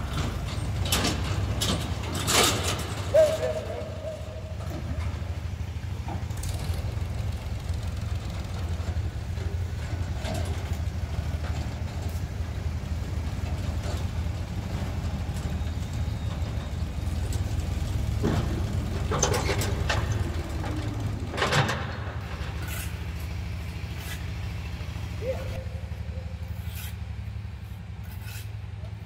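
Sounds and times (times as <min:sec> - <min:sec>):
metallic clanks and rattles: 0:00.0 - 0:25.2
tractor diesel engine rumbling: 0:00.0 - 0:29.0.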